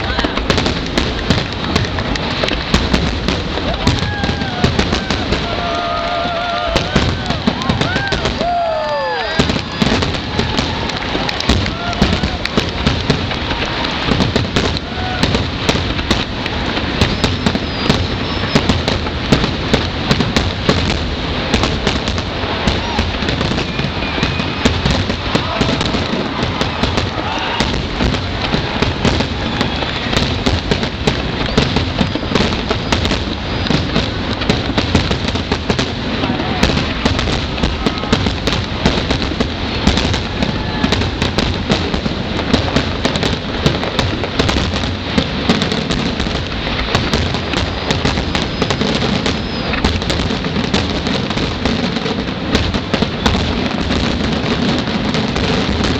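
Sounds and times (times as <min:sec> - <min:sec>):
crowd voices: 0:00.0 - 0:55.9
fireworks bursting and crackling: 0:00.0 - 0:55.9.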